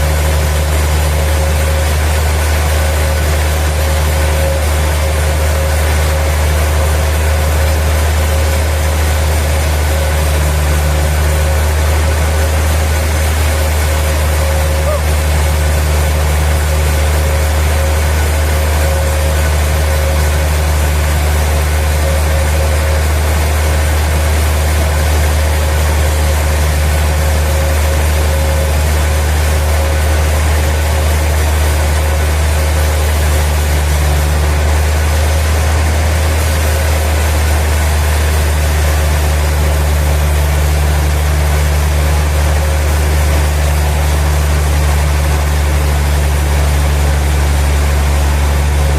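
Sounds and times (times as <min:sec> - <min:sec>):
sawmill machinery drone: 0:00.0 - 0:48.9.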